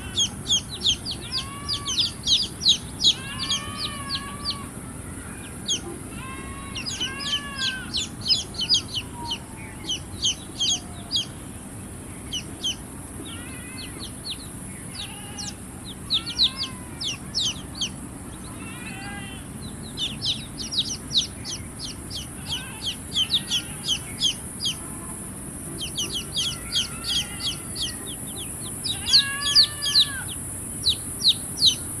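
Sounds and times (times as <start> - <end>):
lower softer chick calls: 0.0 - 11.4, 12.2 - 32.0
baby chicks peeping: 0.0 - 32.0.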